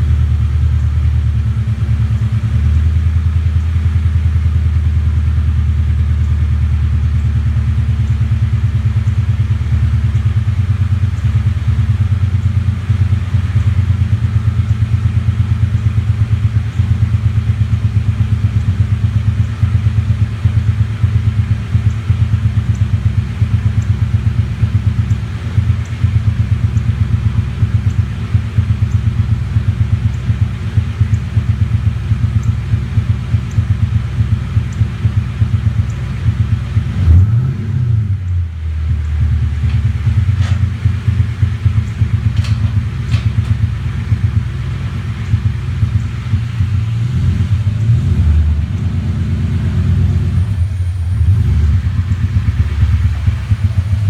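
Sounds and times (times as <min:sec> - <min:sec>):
car engine pulsing misfire: 0:00.0 - 0:54.0.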